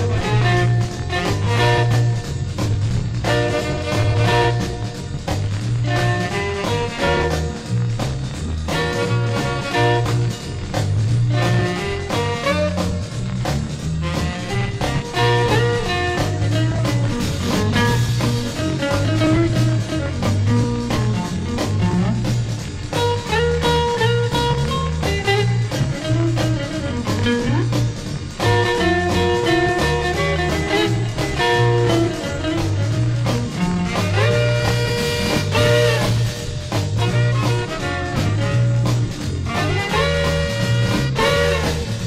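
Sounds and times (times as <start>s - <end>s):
drums: 0.0s - 42.0s
guitar lead: 0.0s - 42.0s
repeating bass riff: 0.0s - 42.0s.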